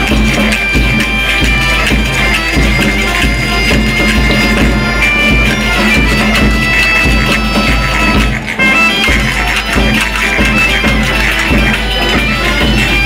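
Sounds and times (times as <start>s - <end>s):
accordion: 0.0s - 13.0s
bagpipe melody with drone: 0.0s - 13.0s
snare drum: 0.0s - 13.0s.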